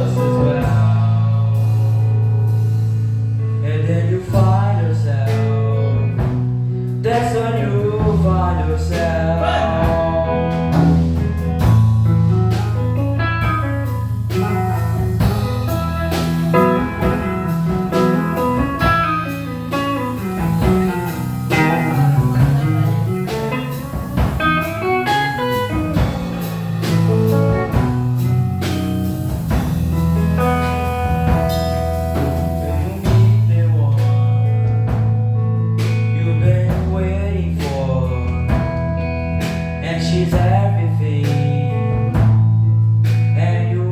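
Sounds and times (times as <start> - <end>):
blues band playing: 0.0 - 43.9.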